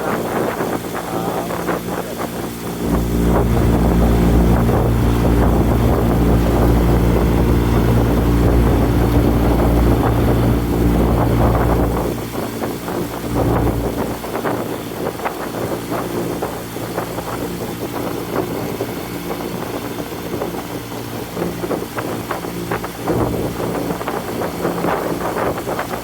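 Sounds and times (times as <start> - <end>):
motorboat engine running: 0.0 - 26.0
wind rumble on microphone: 0.0 - 26.0.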